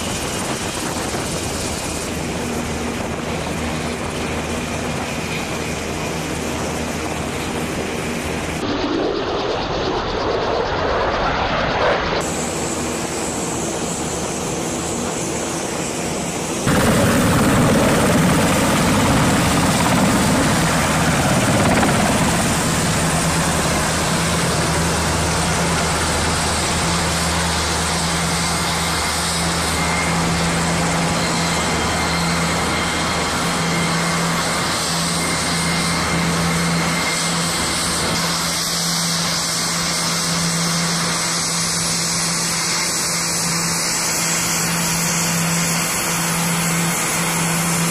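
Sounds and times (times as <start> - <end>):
helicopter rotor and turbine noise: 0.0 - 47.9
jet passing low: 0.0 - 47.9.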